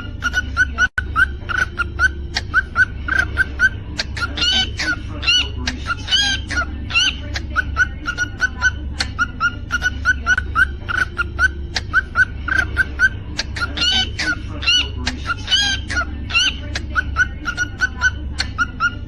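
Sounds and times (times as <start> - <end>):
cockatiel chirping: 0.0 - 19.0.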